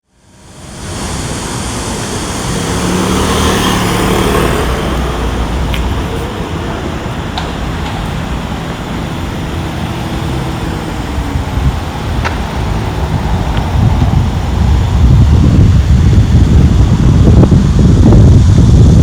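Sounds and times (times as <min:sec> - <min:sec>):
engine hum: 0:00.0 - 0:19.0
road traffic passing: 0:00.0 - 0:19.0
loud low rumble: 0:00.1 - 0:19.0.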